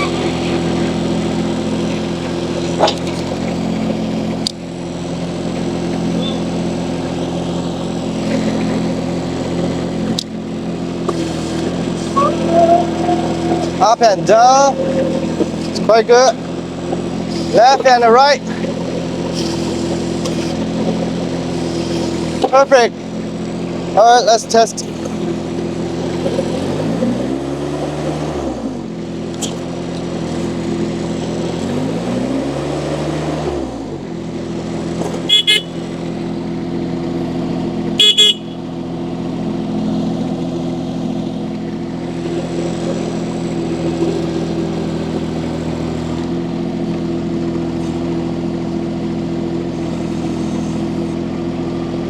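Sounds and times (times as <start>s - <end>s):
loader engine running: 0.0s - 52.0s.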